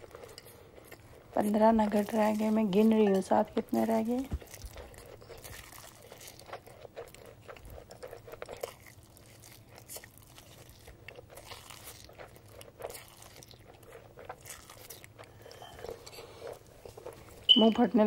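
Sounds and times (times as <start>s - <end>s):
person chewing noodles: 0.0s - 17.6s.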